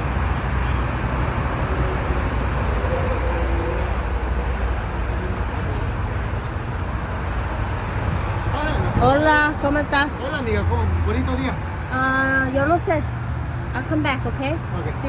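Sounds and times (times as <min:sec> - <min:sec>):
traffic rumble: 0:00.0 - 0:15.0
faint voices: 0:01.6 - 0:15.0.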